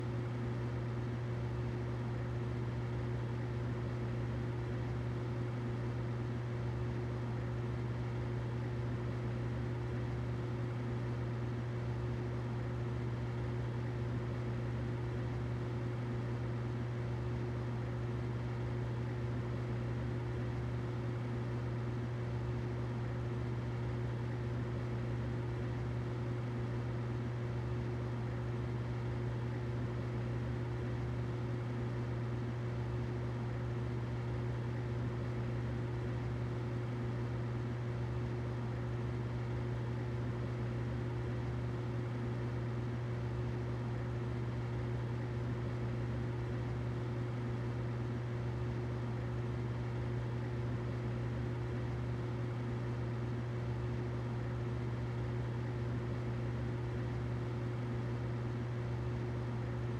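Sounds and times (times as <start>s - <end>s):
humidifier hum: 0.0s - 59.9s.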